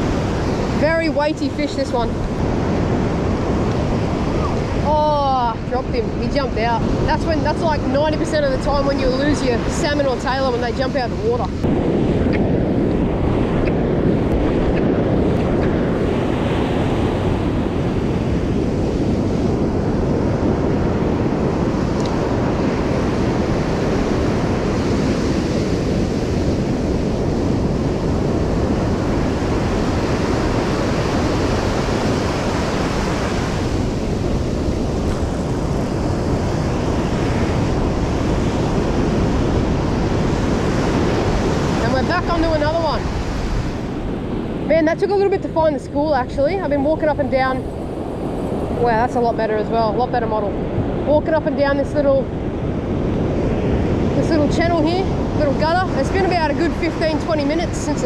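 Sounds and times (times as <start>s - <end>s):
ocean surf breaking on beach: 0.0s - 58.0s
wind buffeting microphone: 0.0s - 58.0s.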